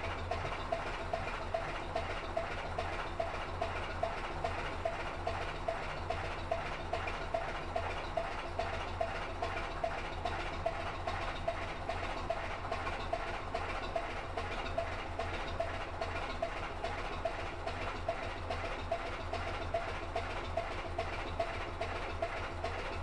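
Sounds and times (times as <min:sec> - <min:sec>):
boat engine humming and ticking: 0:00.0 - 0:23.0.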